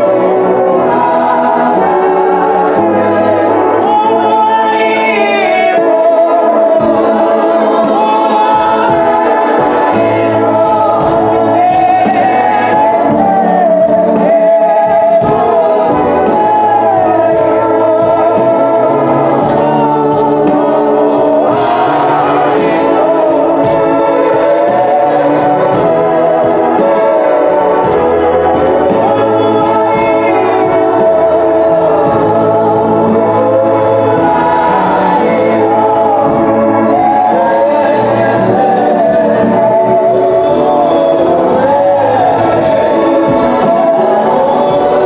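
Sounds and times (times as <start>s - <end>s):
bass line: 0.0s - 45.0s
gospel choir singing: 0.0s - 45.0s.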